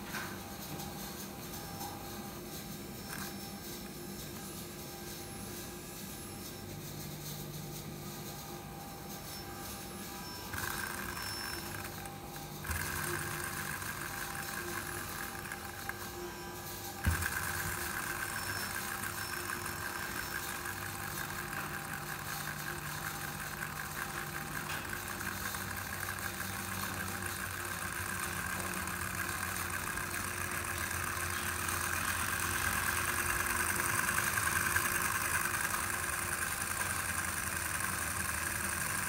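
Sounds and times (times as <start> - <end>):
model engine mechanical whirr: 0.0 - 39.0.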